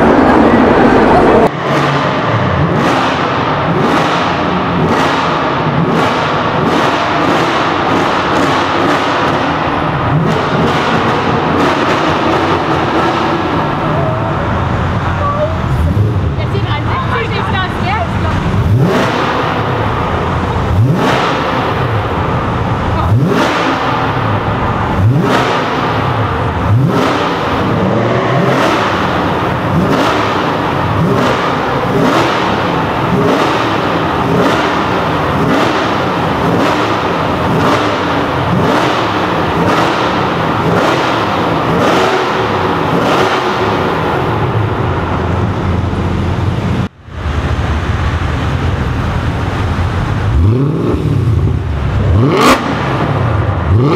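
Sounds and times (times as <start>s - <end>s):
sports car engine revving: 0.0s - 53.9s.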